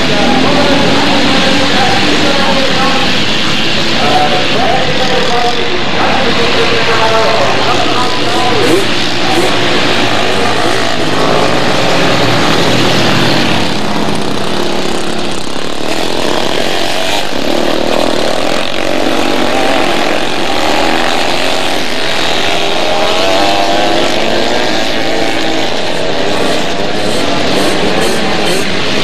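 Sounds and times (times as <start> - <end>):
motorcycle engines racing: 0.0 - 29.0.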